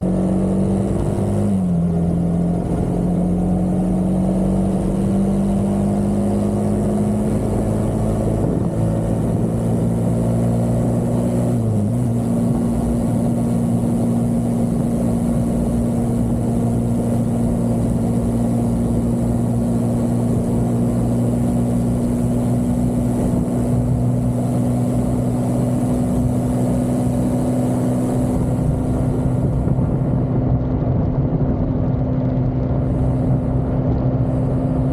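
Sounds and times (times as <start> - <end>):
road and wind noise: 0.0 - 34.9
vehicle engine pulling hard: 0.0 - 34.9.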